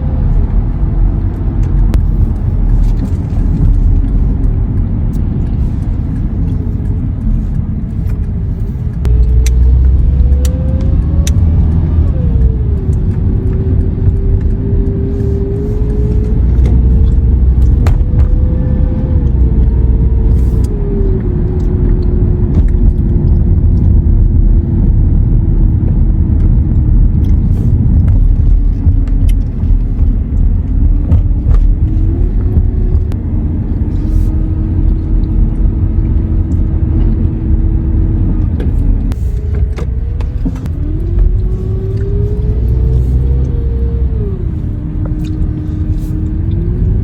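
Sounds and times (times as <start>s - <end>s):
heavy low rumble: 0.0s - 47.0s
vehicle engine running: 0.0s - 47.0s.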